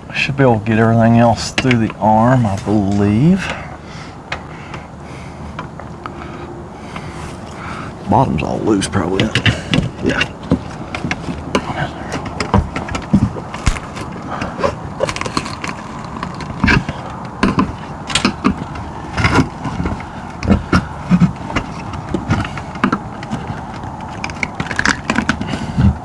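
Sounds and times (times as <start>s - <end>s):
hand tools knocking and scraping: 0.0s - 26.0s.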